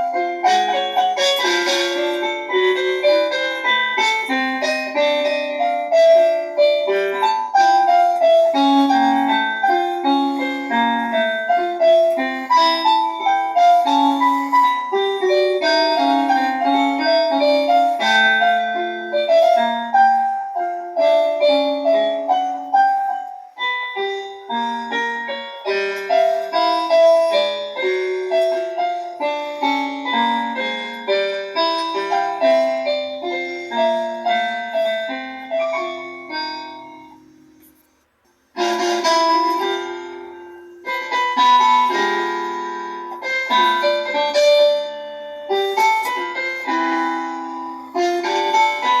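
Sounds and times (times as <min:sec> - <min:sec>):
piano-like keyboard music: 0:00.0 - 0:49.0.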